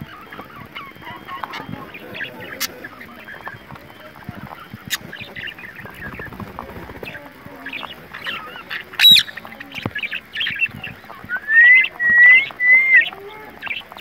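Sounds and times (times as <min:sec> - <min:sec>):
birds whistling calls: 0:00.0 - 0:14.0
busy bird chirping: 0:00.0 - 0:14.0.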